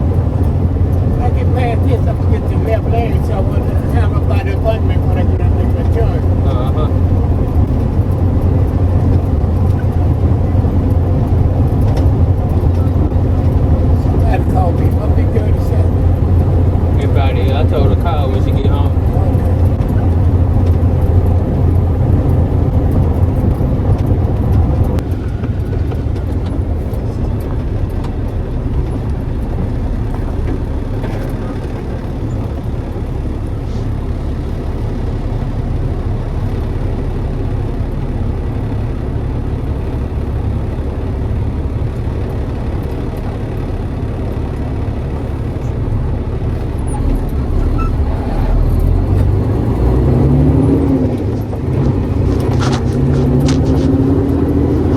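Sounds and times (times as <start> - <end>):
road noise: 0.0 - 54.9
truck engine drone: 0.0 - 54.9.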